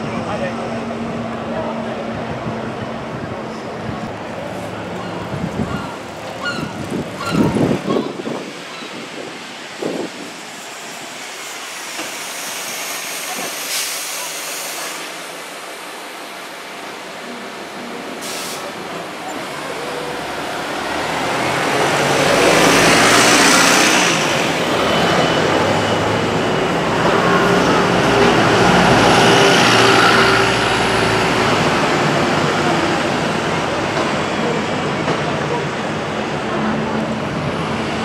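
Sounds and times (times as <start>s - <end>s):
buses passing with engines running: 0.0s - 38.0s.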